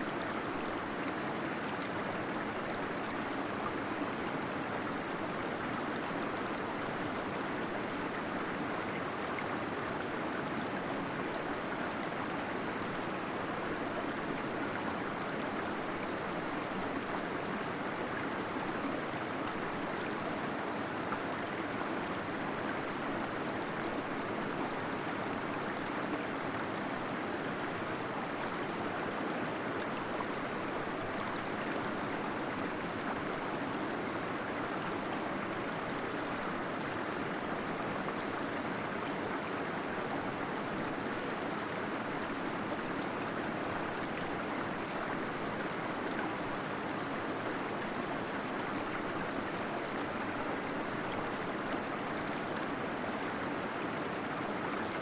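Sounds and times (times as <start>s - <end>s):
small waterfall gurgling: 0.0s - 55.0s.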